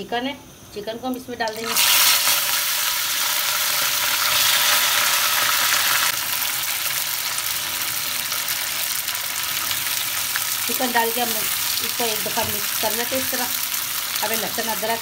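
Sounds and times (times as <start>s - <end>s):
chicken sizzling in hot oil: 1.5s - 15.0s.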